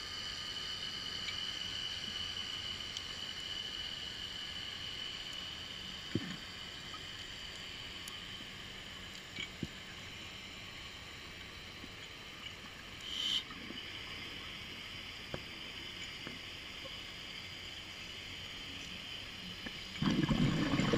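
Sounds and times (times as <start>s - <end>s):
faint underwater hiss: 0.0s - 20.9s.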